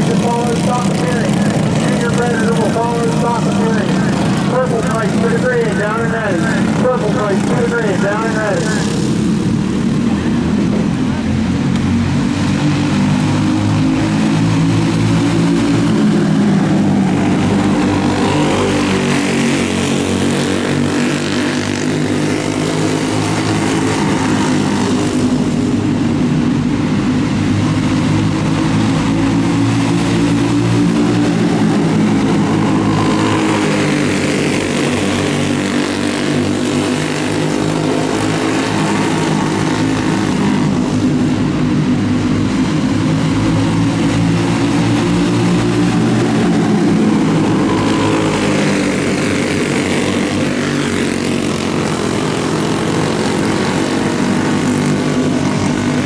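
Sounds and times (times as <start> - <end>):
kart engines droning: 0.0 - 56.0.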